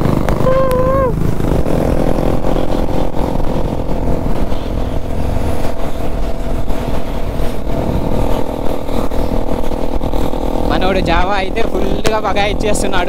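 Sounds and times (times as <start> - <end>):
motorcycle engine cruising: 0.0 - 13.0
wind buffeting microphone: 0.0 - 13.0.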